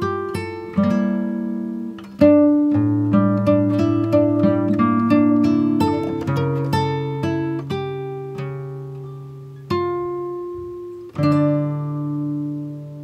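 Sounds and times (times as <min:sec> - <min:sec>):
plucked guitar music: 0:00.0 - 0:13.0.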